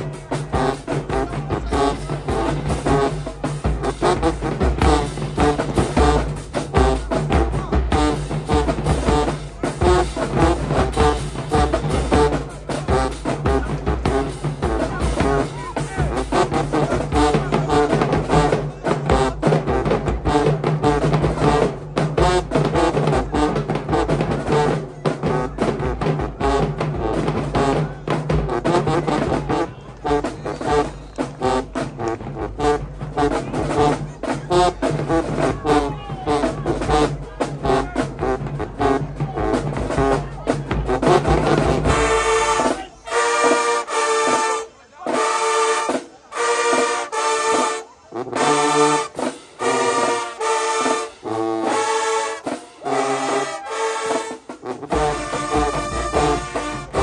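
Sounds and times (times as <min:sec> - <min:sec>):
drum beat: 0:00.0 - 0:47.7, 0:48.3 - 0:57.0
marching band brass: 0:00.0 - 0:57.0.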